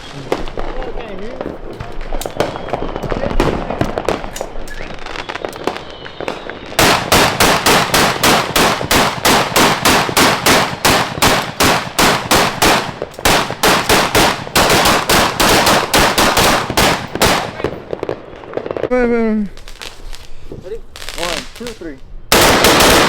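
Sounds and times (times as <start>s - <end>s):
fireworks banging: 0.0s - 23.0s.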